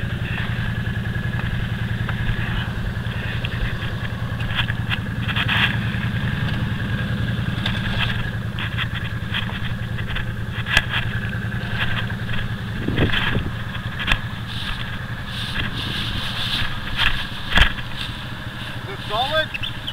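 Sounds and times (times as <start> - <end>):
atv engine running: 0.0 - 19.9
sharp clicks and knocks: 0.2 - 18.2.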